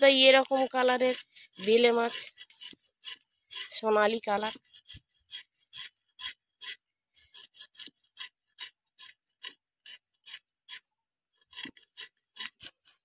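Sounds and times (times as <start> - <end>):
knife scraping fish scales: 0.0 - 13.0.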